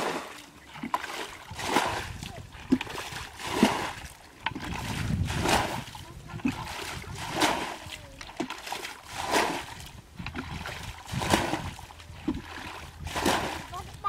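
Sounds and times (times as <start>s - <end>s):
water splashing from a bucket: 0.0s - 14.0s.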